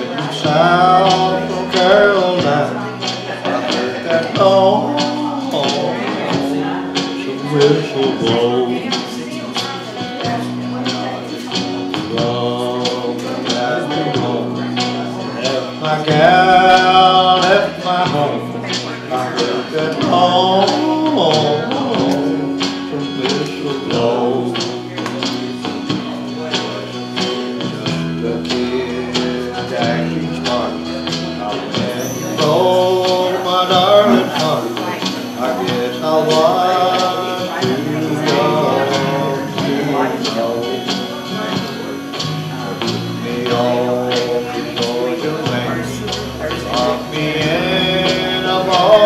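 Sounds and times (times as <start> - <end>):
country music with guitar and beat: 0.0 - 49.0
man singing: 0.0 - 49.0.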